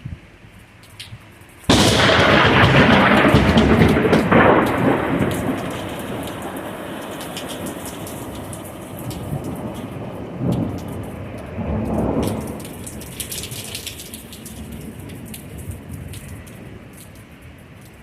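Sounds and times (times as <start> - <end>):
steady rain: 0.3 - 18.0
sharp raindrop ticks: 0.6 - 18.0
thunder rumbling: 1.7 - 17.1.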